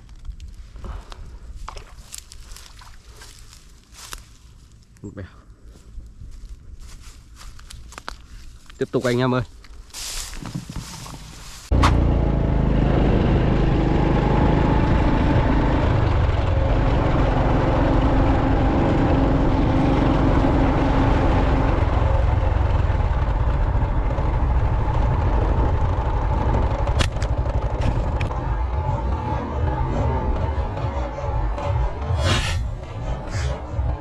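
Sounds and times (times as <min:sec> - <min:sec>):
engine rumbling: 0:00.0 - 0:34.0.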